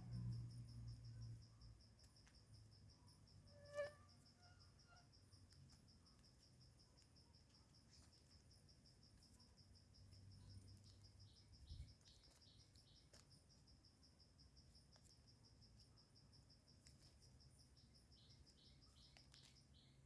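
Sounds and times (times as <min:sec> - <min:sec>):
insect calling in rapid pulses: 0:00.0 - 0:20.0.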